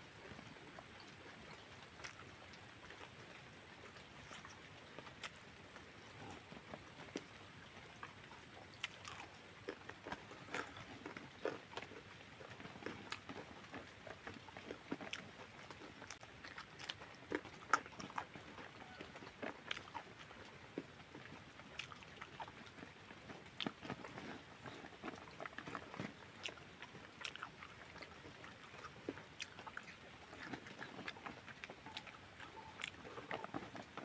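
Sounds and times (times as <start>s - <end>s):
person chewing: 1.8s - 3.2s, 4.2s - 7.3s, 8.0s - 34.0s.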